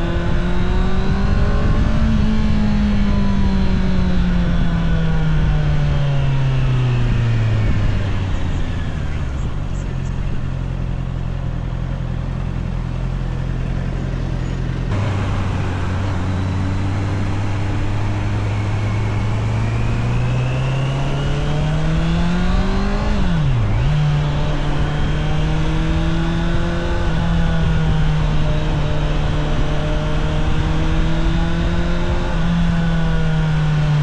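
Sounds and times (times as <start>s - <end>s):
motorcycle engine accelerating: 0.0s - 34.0s
wind and road noise: 0.0s - 34.0s.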